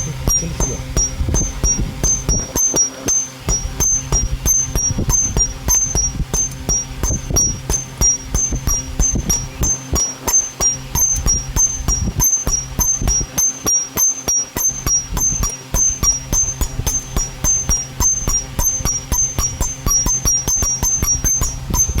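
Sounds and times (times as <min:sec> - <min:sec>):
hammer blows on copper: 0:00.0 - 0:22.0
steady low hum: 0:00.0 - 0:22.0.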